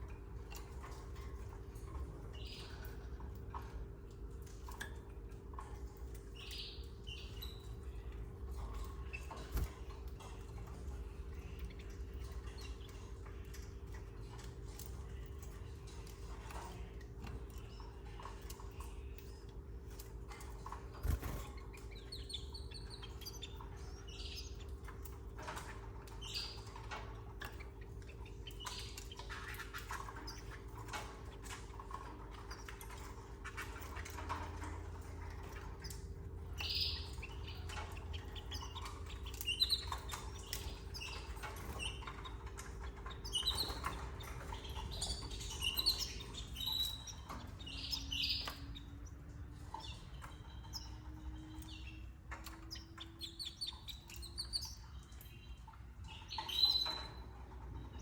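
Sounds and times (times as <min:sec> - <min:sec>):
canaries chirping: 0:00.0 - 0:58.0
faint ticking and scratching: 0:00.0 - 0:58.0.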